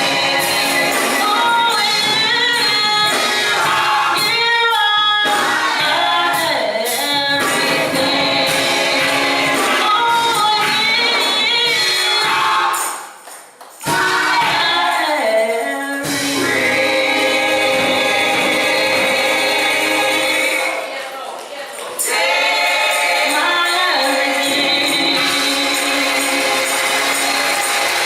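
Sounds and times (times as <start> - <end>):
gospel choir singing: 0.0 - 13.2, 13.8 - 28.0.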